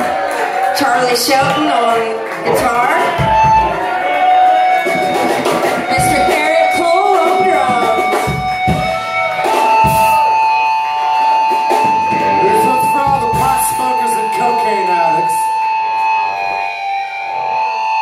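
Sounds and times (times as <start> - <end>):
drums: 0.0 - 17.3
bass guitar: 0.0 - 18.0
electric guitars: 0.0 - 18.0
long held high guitar note: 1.1 - 18.0.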